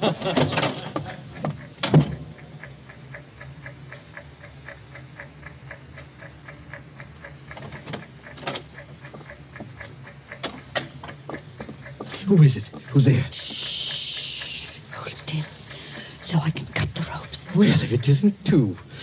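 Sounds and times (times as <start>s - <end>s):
bomb fuse ticking: 0.0s - 19.0s.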